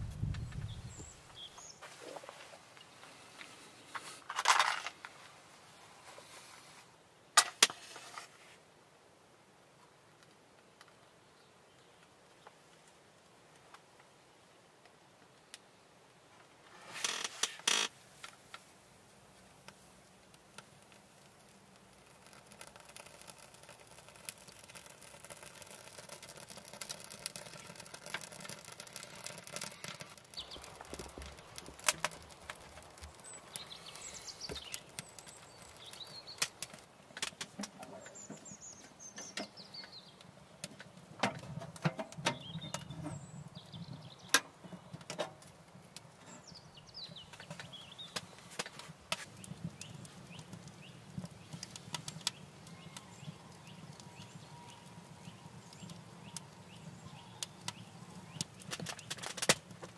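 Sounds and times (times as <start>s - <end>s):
wood fire crackling and popping: 0.0s - 5.2s, 17.0s - 59.9s
low steady rush of fire: 0.0s - 59.9s.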